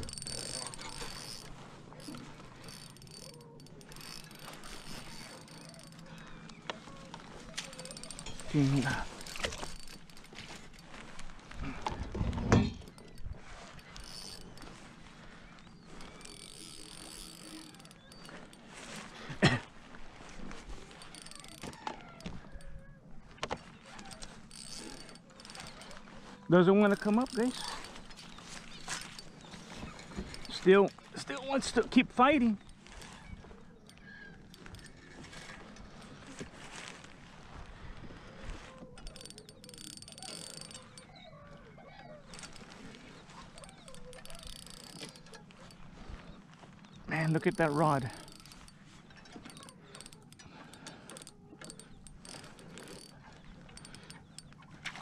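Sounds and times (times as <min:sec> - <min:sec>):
faint wavering calls: 0:00.0 - 0:11.6, 0:20.2 - 0:55.0
fishing reel cranking: 0:00.0 - 0:19.3, 0:19.9 - 0:55.0.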